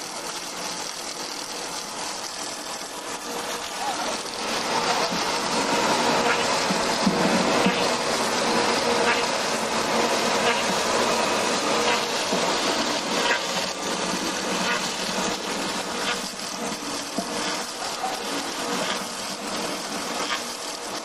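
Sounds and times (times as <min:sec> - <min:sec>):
wood lathe cutting log: 0:00.0 - 0:21.0.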